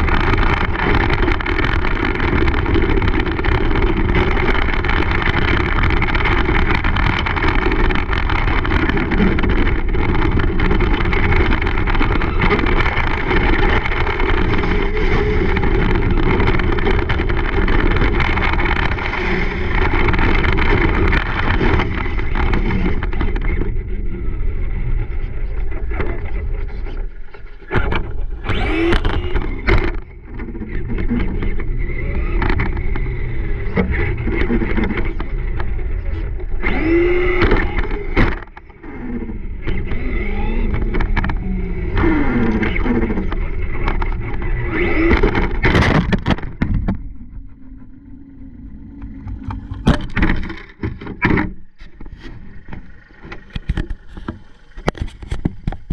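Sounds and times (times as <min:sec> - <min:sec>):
electric motor whining: 0:00.0 - 0:55.9
tyres rumbling over gravel: 0:00.0 - 0:55.9.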